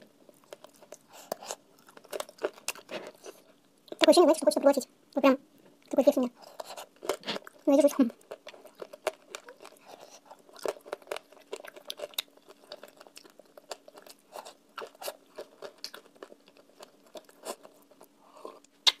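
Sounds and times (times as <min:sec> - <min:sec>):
chewing crunchy clicks: 0:00.3 - 0:04.1, 0:05.8 - 0:19.0.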